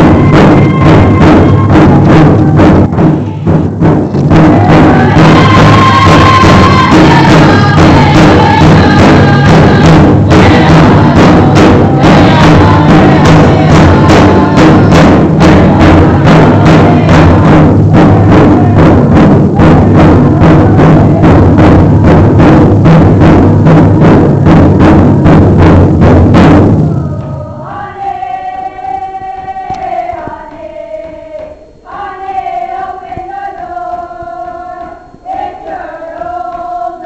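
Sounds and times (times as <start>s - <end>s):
group singing: 0.0s - 22.3s, 26.8s - 37.0s
big drum steady beat: 0.0s - 37.0s.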